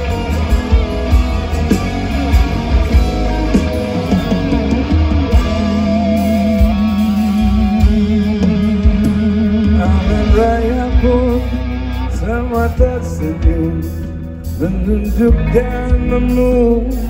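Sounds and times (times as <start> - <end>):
lead guitar melody with bent notes: 0.0 - 17.0
live rock band playing: 0.0 - 17.0.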